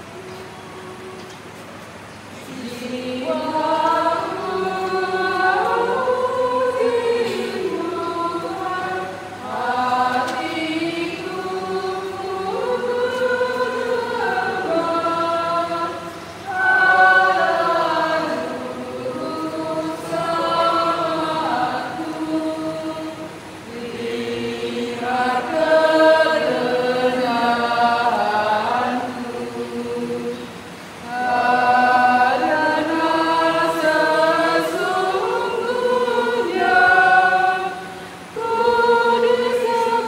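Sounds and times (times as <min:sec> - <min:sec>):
church choir singing: 0:00.0 - 0:01.6, 0:02.2 - 0:40.0.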